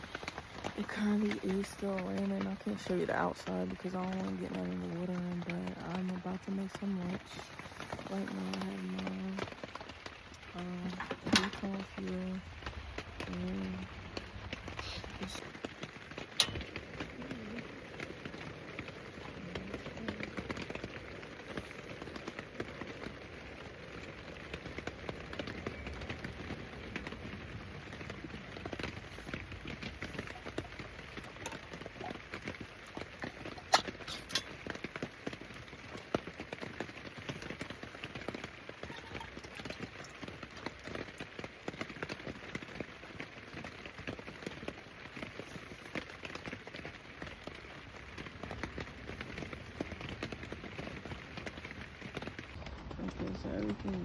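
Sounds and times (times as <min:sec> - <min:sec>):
heavy rain on a tarp: 0:00.0 - 0:54.0.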